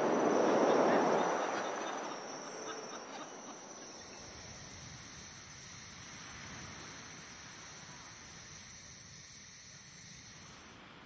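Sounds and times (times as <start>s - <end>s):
high insect tone: 0.0s - 11.0s
insects hissing: 0.0s - 11.0s.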